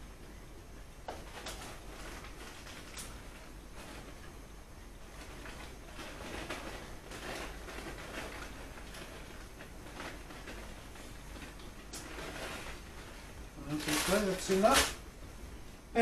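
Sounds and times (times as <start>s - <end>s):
cheese sprinkling rustle: 1.0s - 15.1s.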